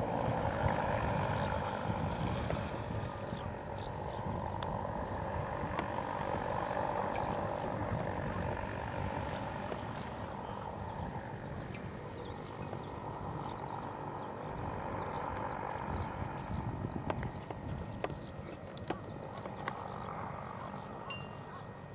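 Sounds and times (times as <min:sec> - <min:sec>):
distant propeller engines droning: 0:00.0 - 0:21.9.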